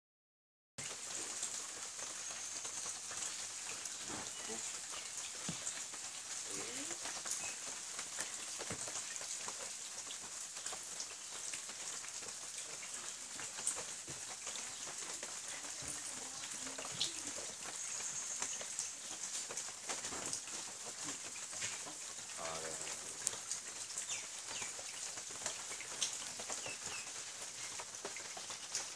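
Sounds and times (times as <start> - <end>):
rain hissing on pond: 0.8 - 28.9.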